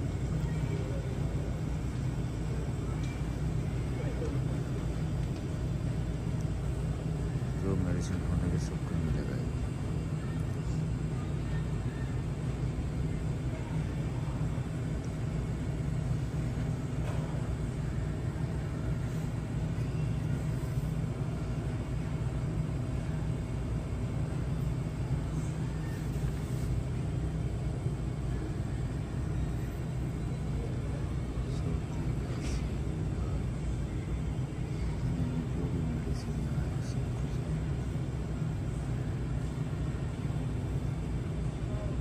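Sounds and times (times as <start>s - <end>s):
low room rumble: 0.0s - 42.0s.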